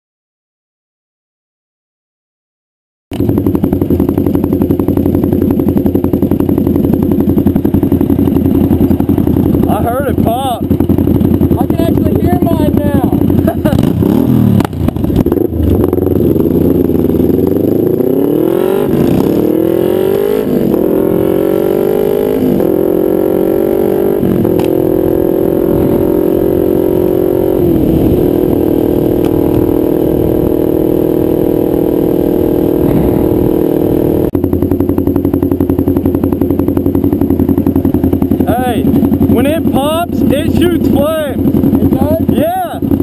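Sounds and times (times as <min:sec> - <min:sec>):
motorcycle engine accelerating: 0:03.1 - 0:43.0.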